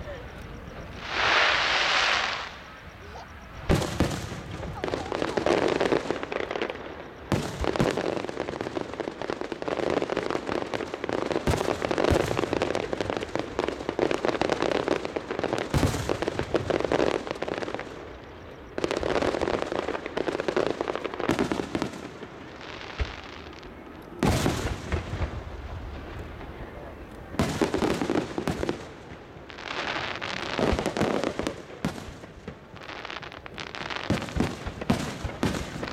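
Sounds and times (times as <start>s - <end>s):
fireworks crackling: 0.0s - 35.9s.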